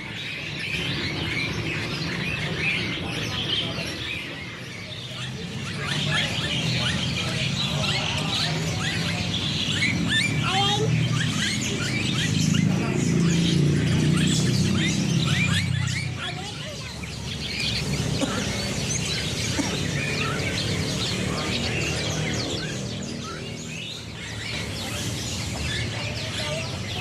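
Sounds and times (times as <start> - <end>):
birds chirping and twittering: 0.0 - 27.0
low background murmur: 0.0 - 27.0.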